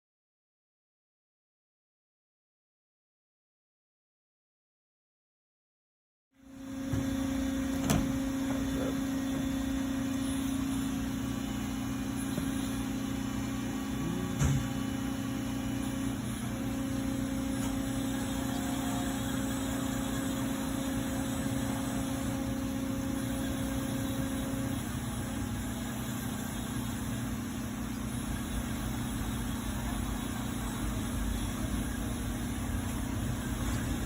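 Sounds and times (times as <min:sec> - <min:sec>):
machine hum: 0:06.4 - 0:34.0
machine whine: 0:06.4 - 0:34.0.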